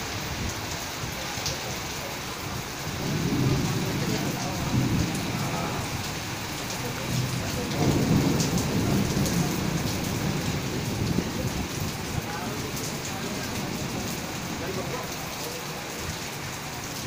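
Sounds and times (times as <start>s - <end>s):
steady rain pouring: 0.0s - 17.0s
thunder rumbling: 2.5s - 17.0s.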